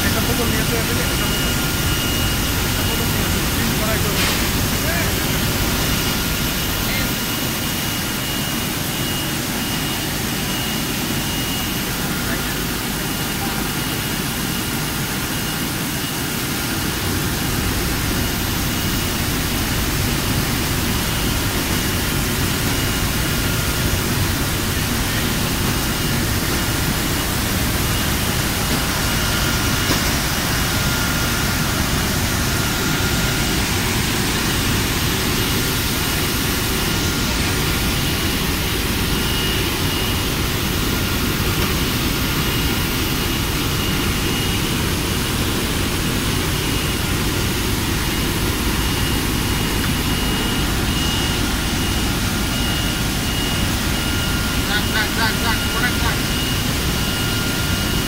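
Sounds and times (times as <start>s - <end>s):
bottling machinery running: 0.0s - 58.0s
faint high whine: 0.0s - 58.0s.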